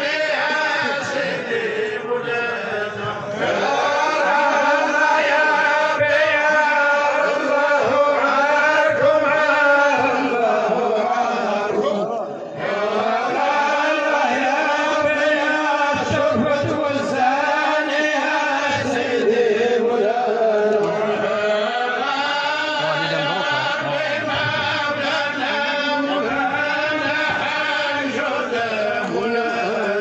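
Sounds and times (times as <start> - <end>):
men chanting: 0.0 - 30.0.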